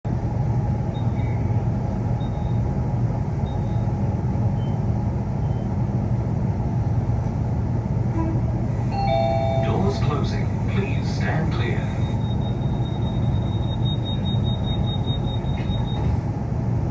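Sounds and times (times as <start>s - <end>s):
train low rumble inside carriage: 0.0s - 16.9s.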